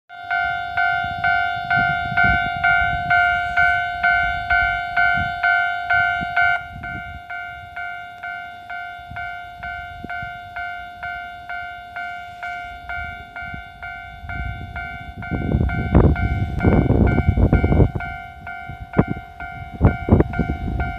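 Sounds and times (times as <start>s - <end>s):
railcar rumble and wheel clatter: 0.1s - 20.9s
two-tone crossing alarm bell: 0.1s - 20.9s.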